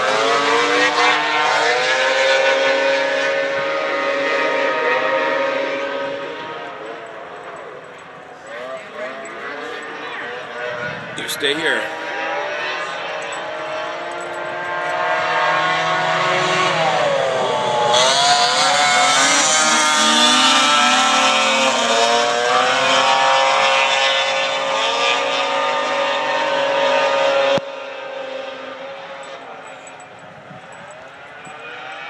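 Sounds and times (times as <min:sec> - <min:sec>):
snowmobile engines racing: 0:00.0 - 0:32.0.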